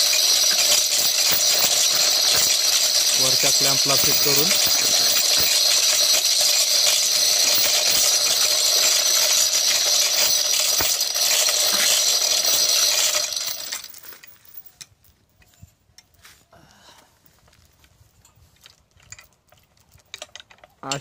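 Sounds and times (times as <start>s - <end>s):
hoist chain rattling: 0.0s - 15.0s, 18.6s - 21.0s.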